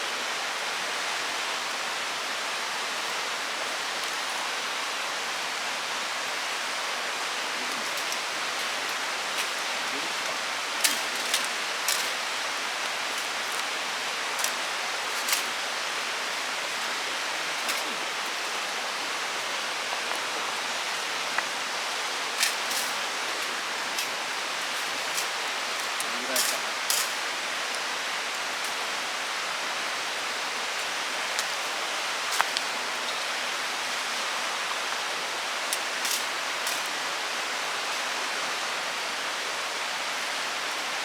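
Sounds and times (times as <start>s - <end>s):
river rushing: 0.0s - 41.0s.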